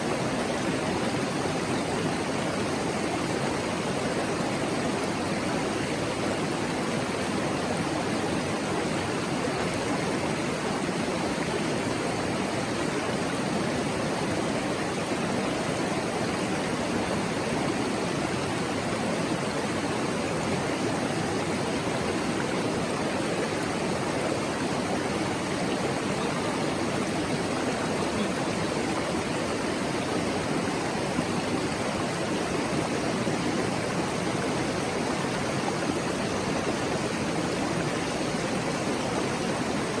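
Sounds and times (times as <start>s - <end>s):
stream babbling over rocks: 0.0s - 40.0s.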